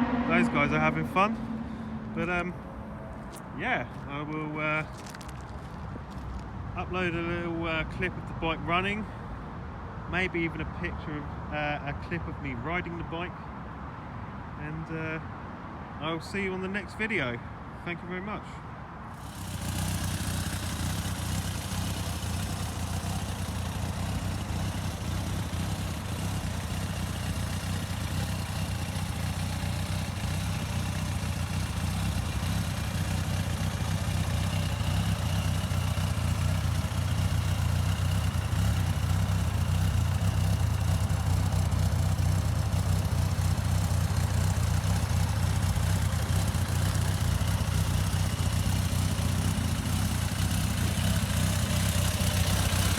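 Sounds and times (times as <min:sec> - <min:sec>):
motorcycle engine idling: 0:00.0 - 0:09.6, 0:19.1 - 0:52.9.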